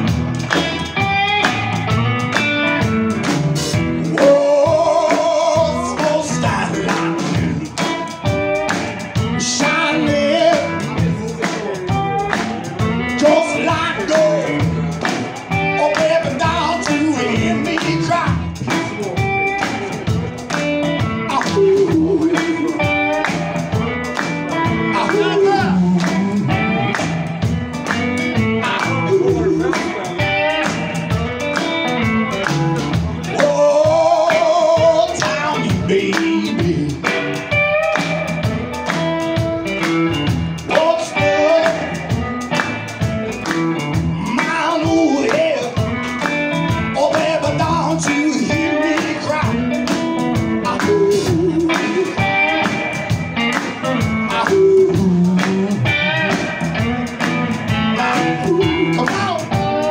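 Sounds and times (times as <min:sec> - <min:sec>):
live blues-rock band: 0:00.0 - 0:59.9
man singing: 0:03.7 - 0:27.5, 0:28.2 - 0:31.3, 0:31.9 - 0:38.0, 0:40.6 - 0:53.1, 0:53.8 - 0:56.9, 0:57.7 - 0:59.9.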